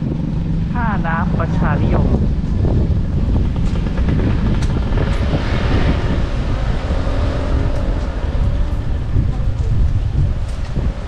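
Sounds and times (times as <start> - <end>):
passing motor vehicle engine: 0.0 - 11.0
wind rumbling on microphone: 0.0 - 11.0.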